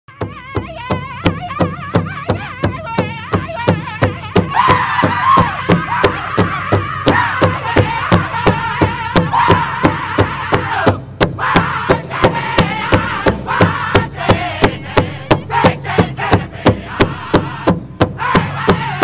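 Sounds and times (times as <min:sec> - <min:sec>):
steady big drumbeat: 0:00.1 - 0:19.0
men singing high wavering: 0:00.2 - 0:19.0.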